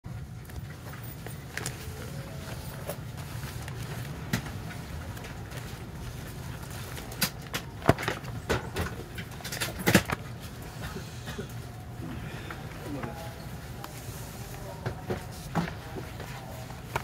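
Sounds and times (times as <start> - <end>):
low hum inside train car: 0.1 - 17.0.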